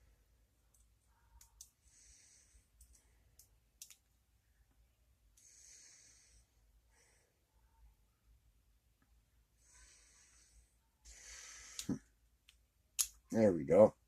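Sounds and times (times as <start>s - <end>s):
soft breaths: 0.0s - 12.4s.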